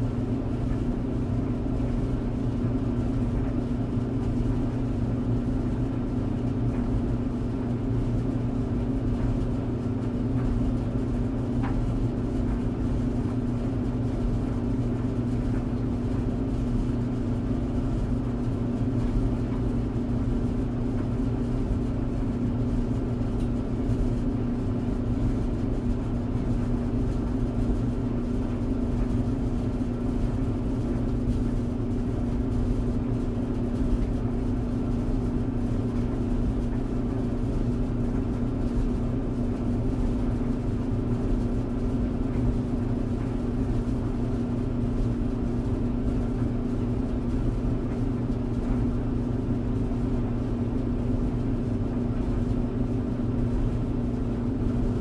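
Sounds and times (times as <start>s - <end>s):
tumble dryer running: 0.0s - 55.0s.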